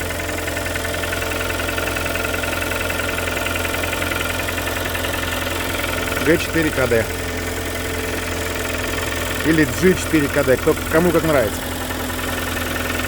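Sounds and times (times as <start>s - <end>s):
engine idling with rapid knock: 0.0s - 13.0s.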